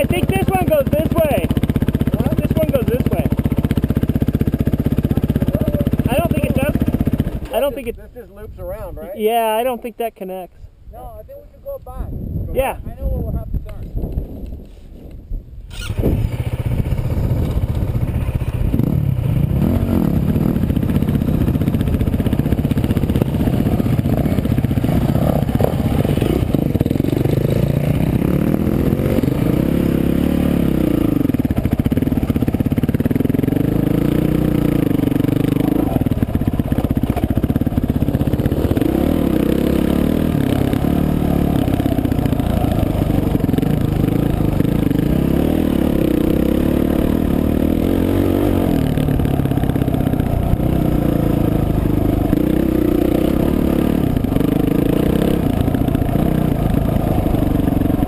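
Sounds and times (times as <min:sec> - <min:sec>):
dirt bike engine revving: 0:00.0 - 0:08.0, 0:15.7 - 0:58.0.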